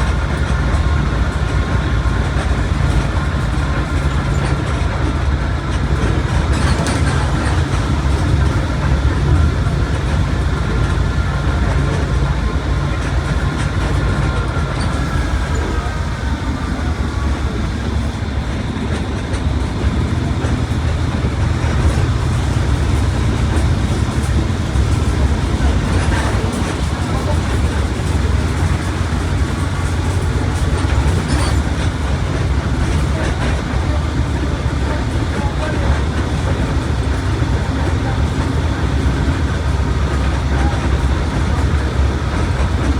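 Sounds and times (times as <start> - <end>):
bus diesel engine drone: 0.0 - 42.9
tyre and road noise: 0.0 - 42.9.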